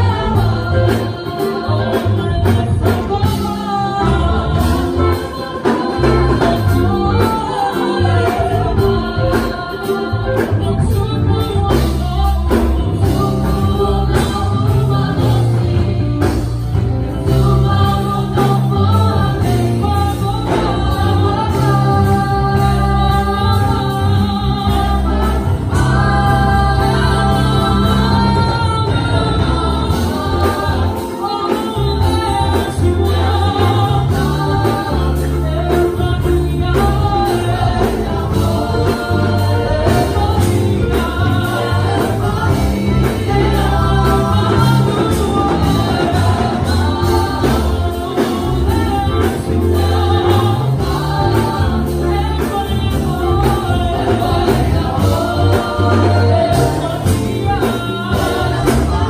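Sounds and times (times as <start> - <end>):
drums with steady beat: 0.0 - 59.0
electric bass: 0.0 - 59.0
group singing gospel: 0.0 - 59.0.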